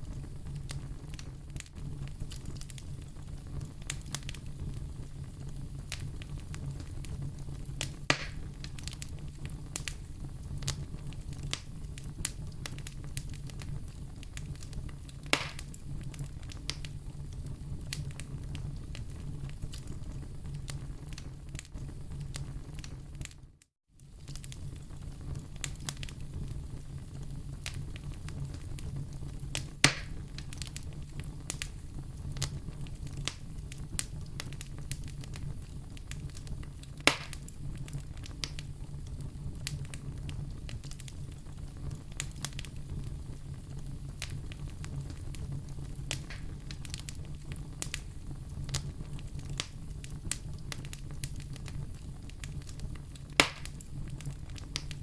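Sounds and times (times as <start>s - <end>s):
sharp fire pops: 0.0s - 23.4s, 24.0s - 55.0s
wood fire crackling: 0.0s - 55.0s.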